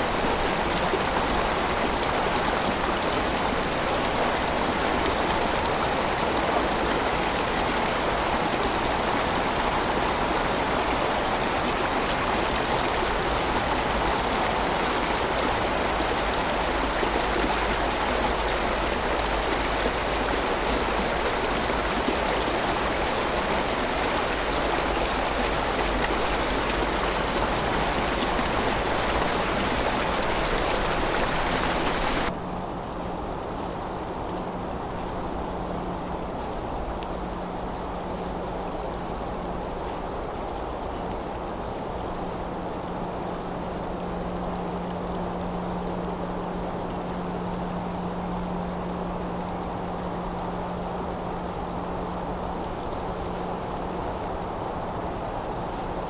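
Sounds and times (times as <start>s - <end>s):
brook water rushing: 0.0s - 56.0s.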